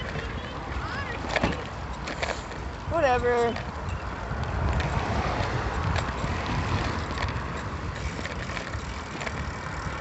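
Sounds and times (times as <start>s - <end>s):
bicycle clicks and rattles: 0.0s - 10.0s
road and tyre noise: 0.0s - 10.0s
wind buffeting microphone: 0.0s - 10.0s.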